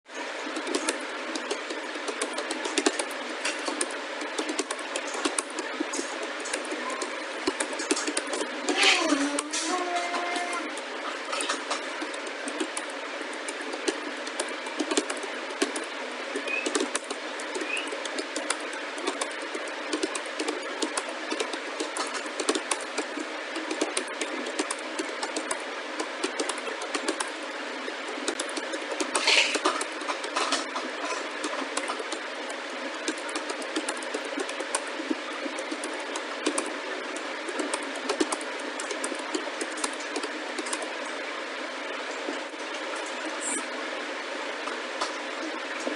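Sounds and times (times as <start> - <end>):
keyboard typing clicks: 0.6 - 27.4, 28.2 - 40.9.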